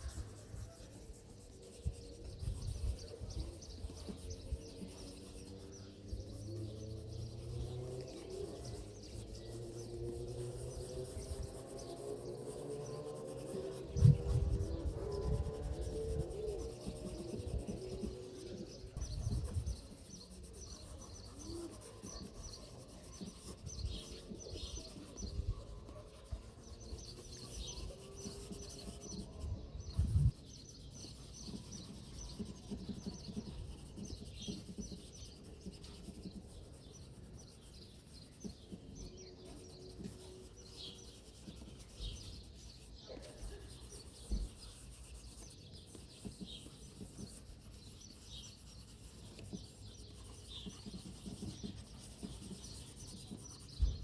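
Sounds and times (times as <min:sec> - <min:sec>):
pencil scratching on paper: 0:00.0 - 0:54.0.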